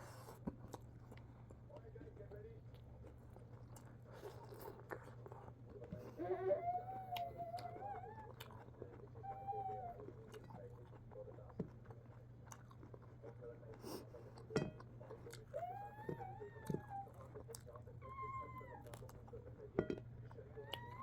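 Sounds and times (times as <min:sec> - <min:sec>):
chewing and crunching: 0:00.0 - 0:21.0.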